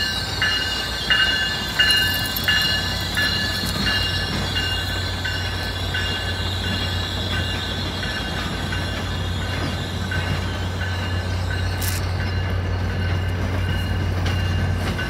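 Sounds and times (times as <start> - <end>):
train wheels squealing: 0.0 - 15.0.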